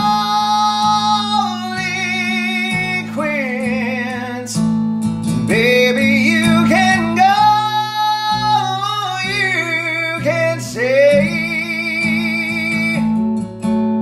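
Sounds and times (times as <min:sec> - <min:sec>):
man singing with vibrato: 0:00.0 - 0:04.7, 0:05.5 - 0:13.3.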